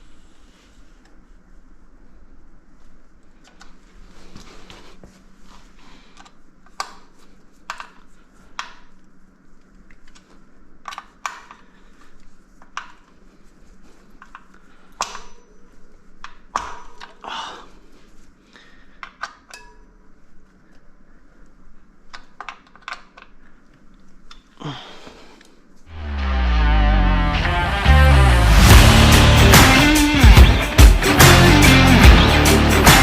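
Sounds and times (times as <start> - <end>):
faint steady hum: 0.0 - 29.7.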